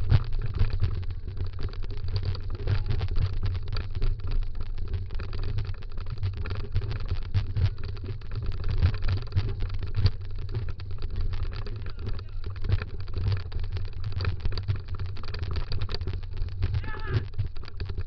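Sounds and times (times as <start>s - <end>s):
scooter wheels rumbling on trail: 0.0s - 18.0s.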